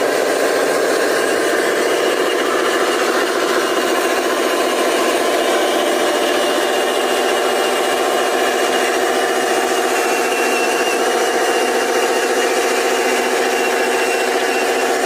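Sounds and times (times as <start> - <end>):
steady mechanical running: 0.0 - 15.0.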